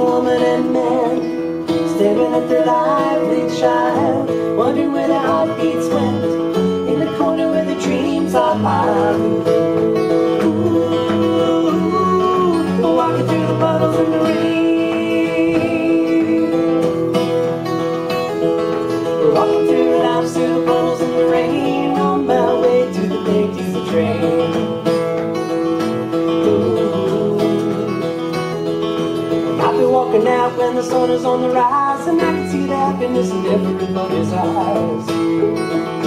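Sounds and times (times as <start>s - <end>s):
person singing: 0.0s - 17.8s, 18.7s - 28.5s, 29.5s - 36.0s
acoustic guitar strumming: 0.0s - 36.0s.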